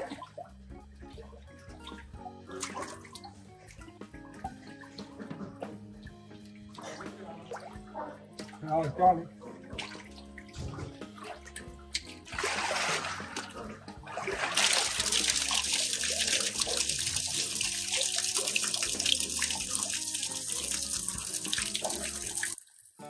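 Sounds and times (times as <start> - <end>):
water pouring and splashing: 0.0 - 0.6, 1.7 - 5.8, 6.4 - 23.0.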